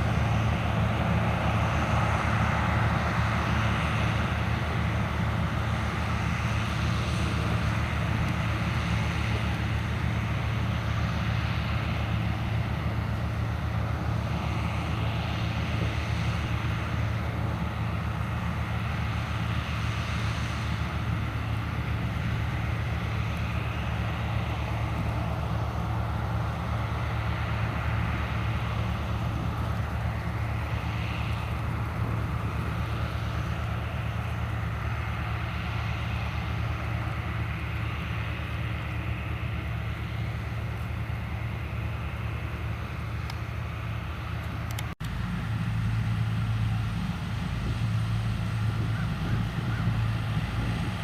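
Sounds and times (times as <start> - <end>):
diesel engine of harvesting machinery: 0.0 - 51.0.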